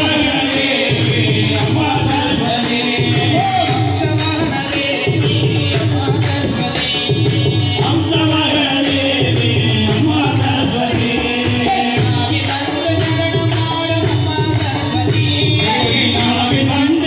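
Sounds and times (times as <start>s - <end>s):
devotional chorus singing: 0.0s - 17.0s.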